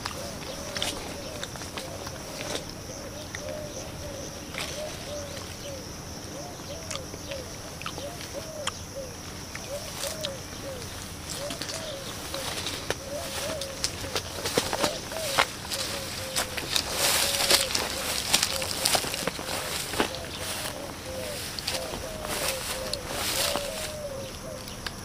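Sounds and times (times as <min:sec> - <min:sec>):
dove cooing: 0:00.0 - 0:25.0
high-pitched hum: 0:00.0 - 0:25.0.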